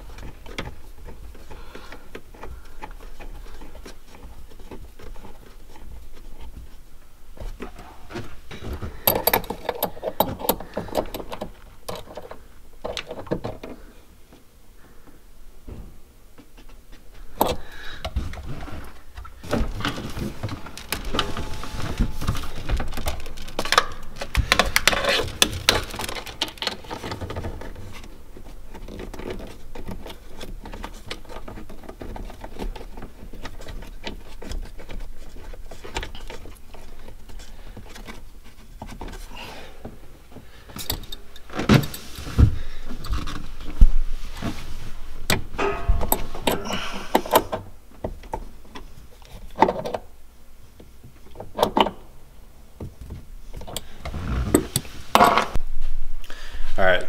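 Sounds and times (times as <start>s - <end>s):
rustling and small clicks: 0.0s - 52.1s.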